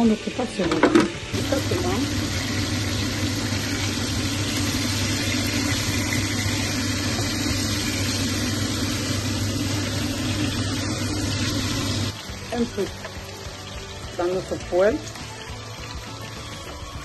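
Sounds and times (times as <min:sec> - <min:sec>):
fish sizzling in hot oil: 0:01.3 - 0:17.0.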